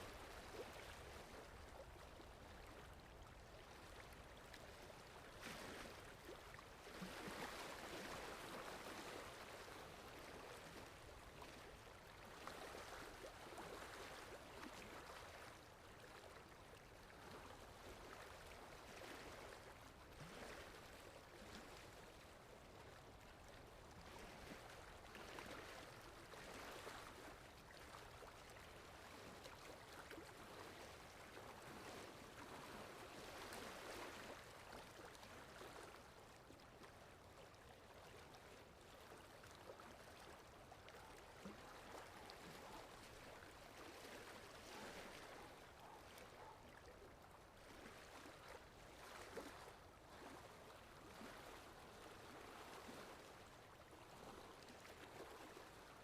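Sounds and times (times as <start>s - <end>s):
faint sea waves washing in: 0.0s - 56.0s.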